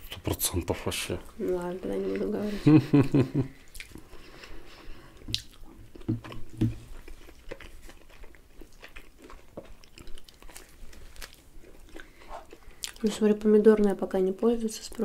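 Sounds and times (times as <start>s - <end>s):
chewing pizza: 1.4s - 14.0s.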